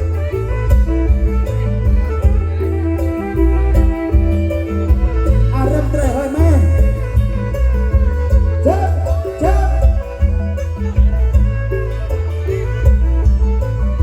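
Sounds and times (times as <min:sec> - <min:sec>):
heavy steady drum beat: 0:00.0 - 0:11.9
bowed fiddle: 0:00.0 - 0:14.0.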